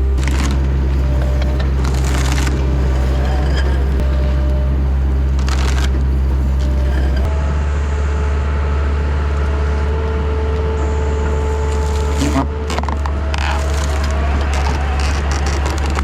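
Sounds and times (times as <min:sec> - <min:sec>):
diesel engine running: 0:00.0 - 0:16.0
high whine: 0:00.0 - 0:16.0.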